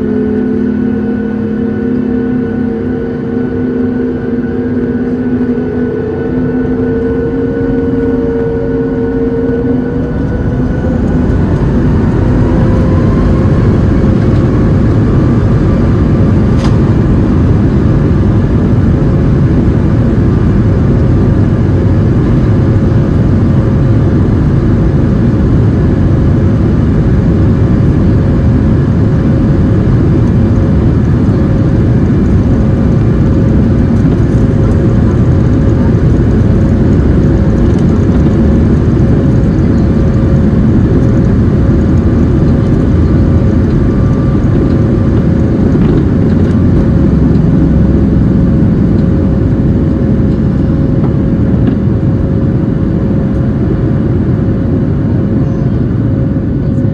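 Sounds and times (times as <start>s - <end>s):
jet engines spooling up: 0.0s - 56.9s.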